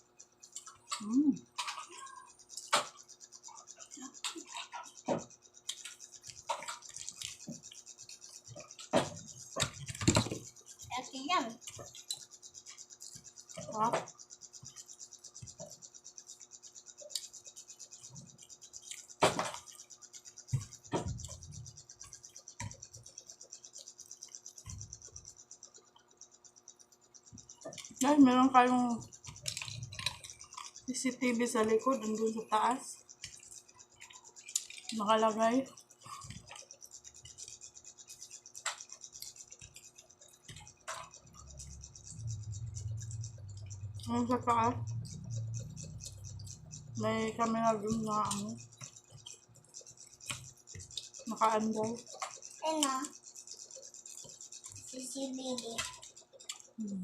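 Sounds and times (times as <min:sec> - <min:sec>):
chewing fried fish: 0:00.0 - 0:57.0.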